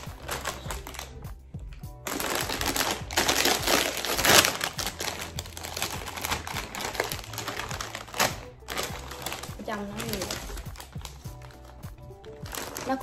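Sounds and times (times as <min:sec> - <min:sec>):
chip bag crinkling: 0:00.0 - 0:01.2, 0:02.0 - 0:13.0.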